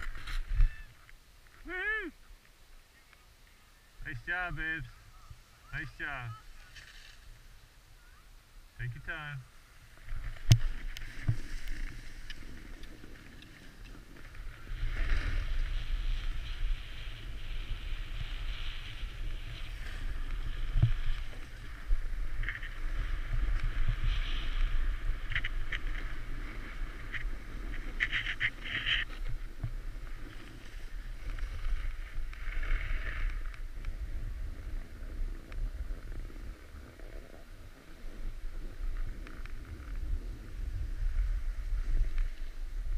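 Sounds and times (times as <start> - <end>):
snowboard scraping over snow: 5.7 - 7.7, 9.2 - 42.9.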